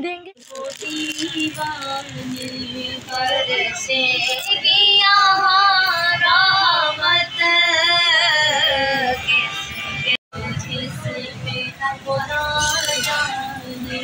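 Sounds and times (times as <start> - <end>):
woman singing: 0.0 - 9.2, 10.4 - 14.0.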